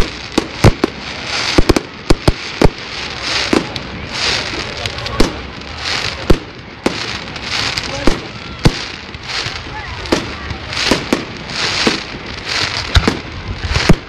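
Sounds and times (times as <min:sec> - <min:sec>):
fireworks bangs: 0:00.0 - 0:14.0
fireworks hissing and crackling: 0:00.0 - 0:14.0.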